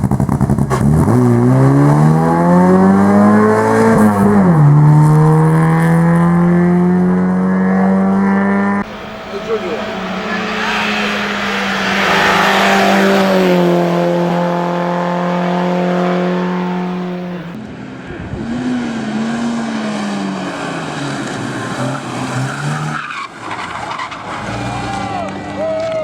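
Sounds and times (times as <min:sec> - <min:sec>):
race car engine revving: 0:00.0 - 0:25.6
race car passing at full throttle: 0:00.7 - 0:25.9.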